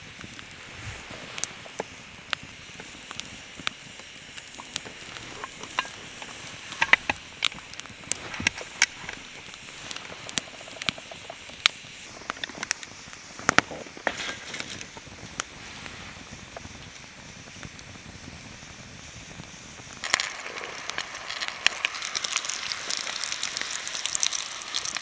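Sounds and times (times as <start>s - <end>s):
campfire crackling and popping: 0.0s - 25.0s
low fire hiss: 0.0s - 25.0s.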